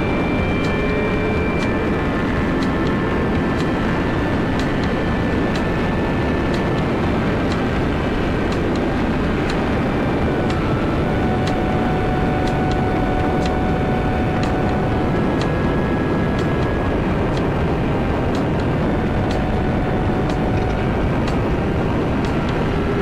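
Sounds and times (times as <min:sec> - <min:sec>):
wind rush: 0:00.0 - 0:23.0.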